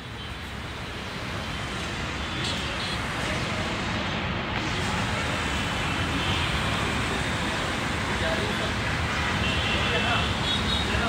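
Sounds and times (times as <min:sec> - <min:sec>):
passing cars and motorbikes: 0:00.0 - 0:11.0.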